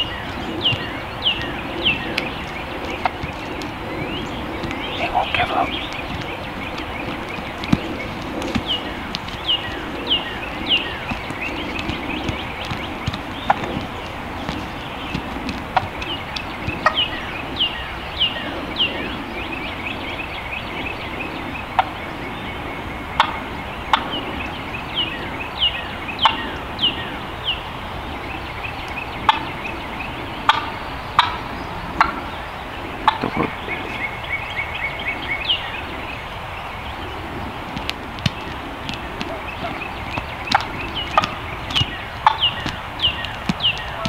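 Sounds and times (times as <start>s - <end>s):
wild turkeys calling: 0.0s - 19.8s, 21.7s - 22.0s, 23.1s - 27.6s, 28.8s - 44.0s.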